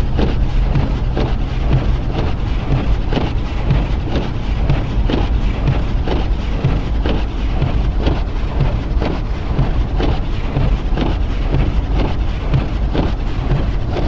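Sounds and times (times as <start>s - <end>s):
car road noise inside cabin: 0.0s - 14.0s
windshield wipers sweeping on ice: 0.0s - 14.0s.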